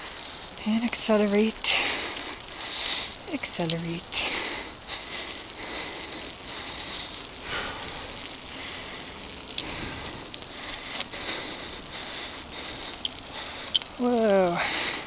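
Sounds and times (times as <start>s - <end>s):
bike clicks over bumps: 0.0s - 15.0s
bike tyres on dirt: 0.0s - 15.0s
wind: 0.0s - 15.0s.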